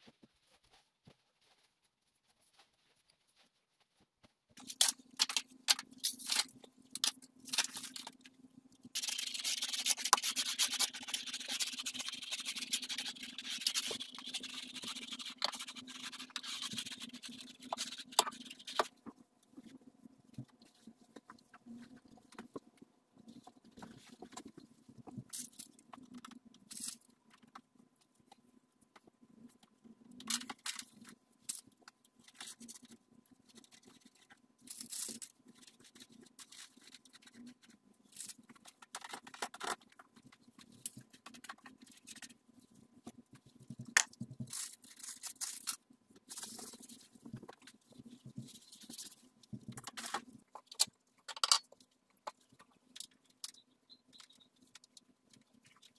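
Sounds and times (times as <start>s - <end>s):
scrapes and clicks of handling: 4.2s - 55.9s.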